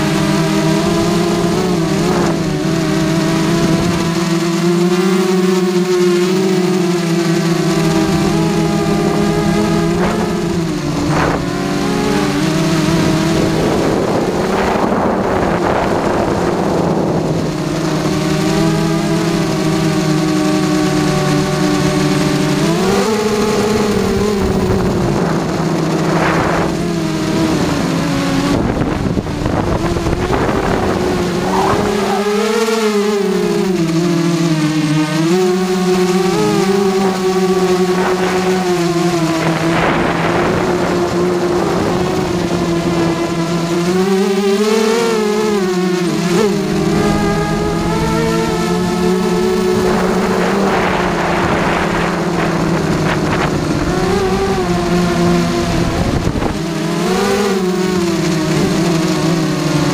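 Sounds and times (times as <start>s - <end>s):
quadcopter motors whining: 0.0s - 59.9s
wind noise: 7.3s - 34.6s, 35.9s - 44.1s, 44.9s - 59.9s.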